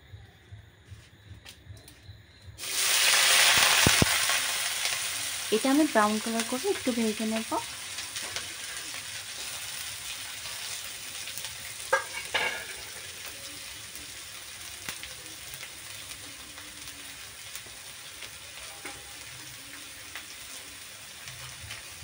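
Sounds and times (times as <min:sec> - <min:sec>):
onions sizzling in hot oil: 0:02.6 - 0:22.0.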